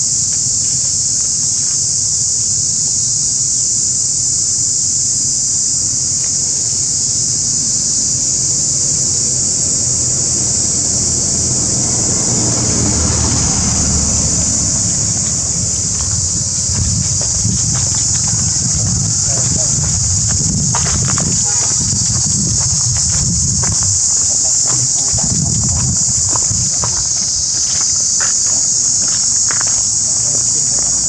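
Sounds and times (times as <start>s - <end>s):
insect chorus drone: 0.0s - 31.0s
wind rumble on microphone: 5.3s - 31.0s.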